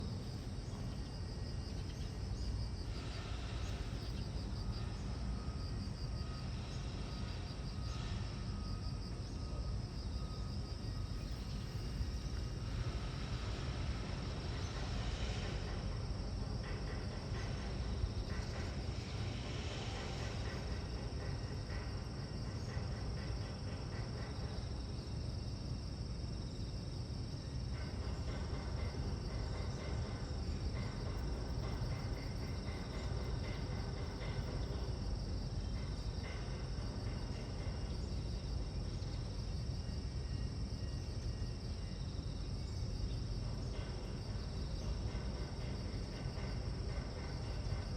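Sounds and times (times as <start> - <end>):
insects chirping in trills: 0.0 - 47.9.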